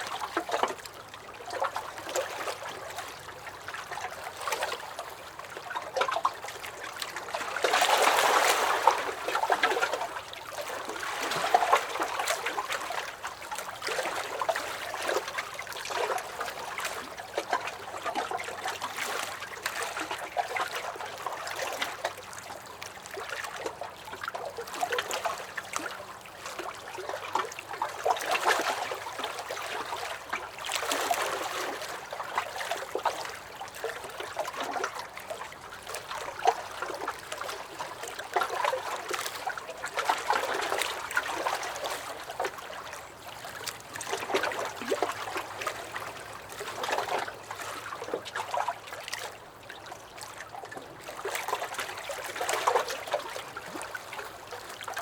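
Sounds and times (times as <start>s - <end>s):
waves lapping against dock: 0.0s - 55.0s.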